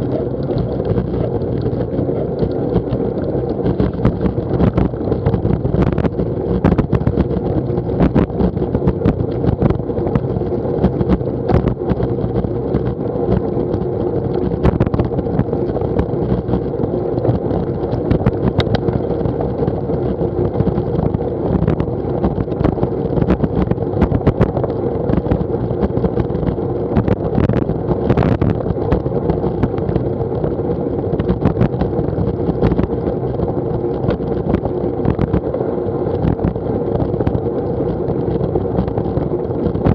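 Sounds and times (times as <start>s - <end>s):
tyres on wet tarmac: 0.0s - 39.9s
wind on microphone: 0.0s - 39.9s.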